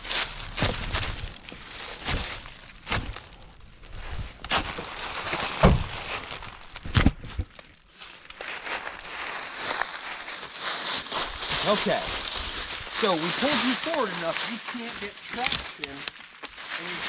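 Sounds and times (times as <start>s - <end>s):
footsteps crunching dry leaves: 0.0s - 6.9s, 7.8s - 17.0s.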